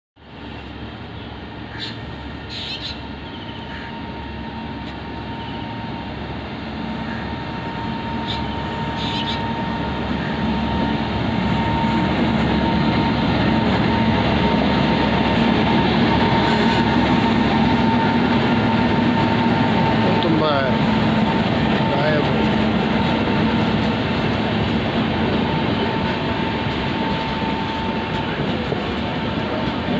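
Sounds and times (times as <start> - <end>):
faint train hum: 0.2 - 29.9
passenger train rumbling: 0.2 - 29.9.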